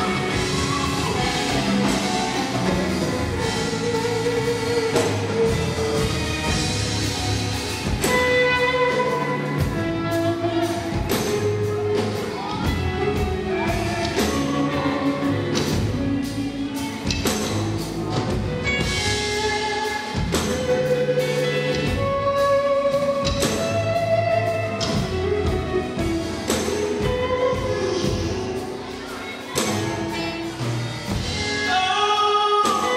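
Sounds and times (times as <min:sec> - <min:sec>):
drum kit beat: 0:00.0 - 0:32.9
electric guitar held notes: 0:00.0 - 0:32.9
gospel band playing: 0:00.0 - 0:32.9.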